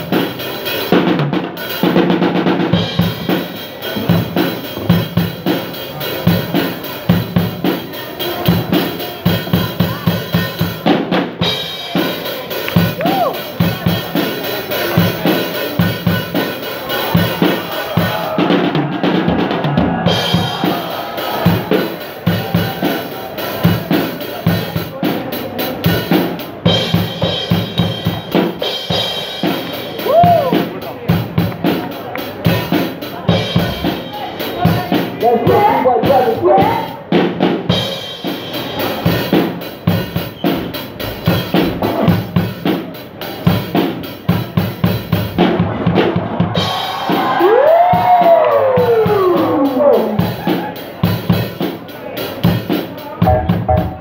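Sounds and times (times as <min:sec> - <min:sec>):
drum kit breakbeat: 0:00.0 - 0:54.0.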